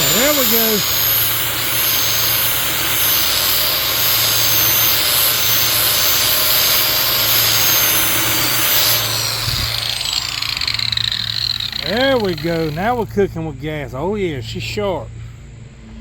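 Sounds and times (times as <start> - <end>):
angle grinder grinding steel: 0.0 - 13.1
grinder disc spinning down: 0.0 - 13.2.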